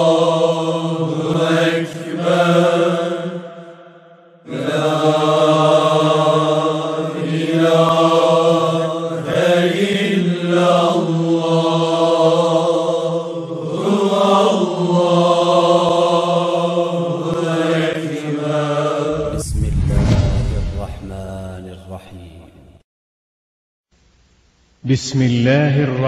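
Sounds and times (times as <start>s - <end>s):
wordless chanting: 0.0s - 22.8s.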